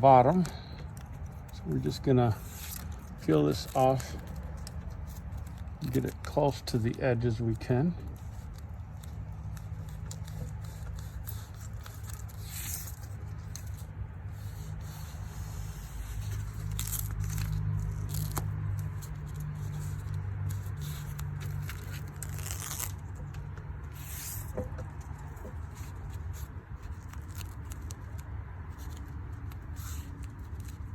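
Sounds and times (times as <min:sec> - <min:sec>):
backing paper tearing off foam: 0:00.0 - 0:30.9.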